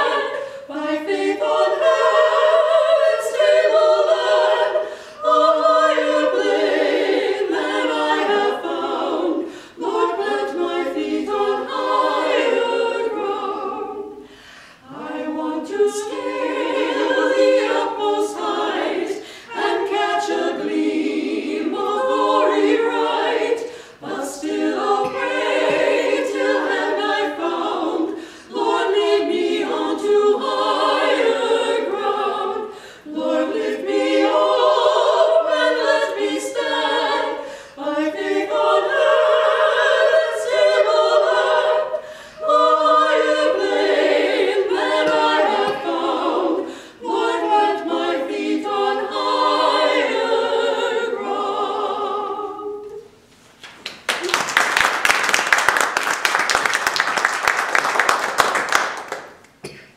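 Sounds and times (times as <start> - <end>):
women singing hymn in harmony: 0.0 - 53.2.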